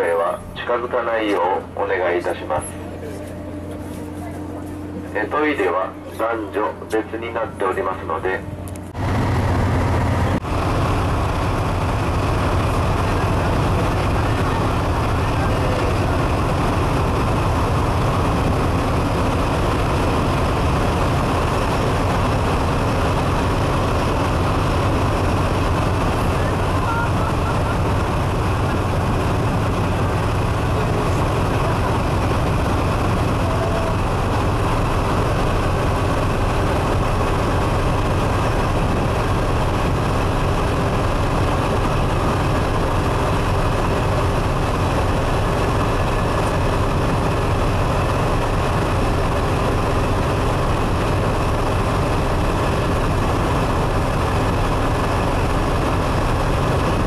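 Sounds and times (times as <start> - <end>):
boat engine hum: 0.0 - 57.0
water rushing: 9.0 - 57.0.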